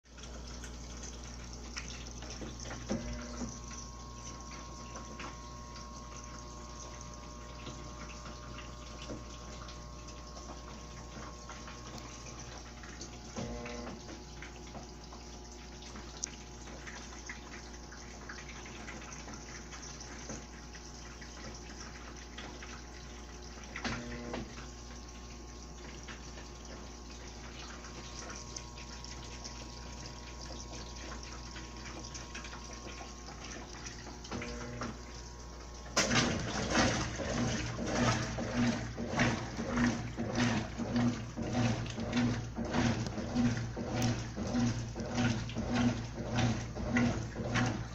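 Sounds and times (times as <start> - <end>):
washing machine agitator churning: 0.0 - 47.9
water running into tub: 0.0 - 47.9.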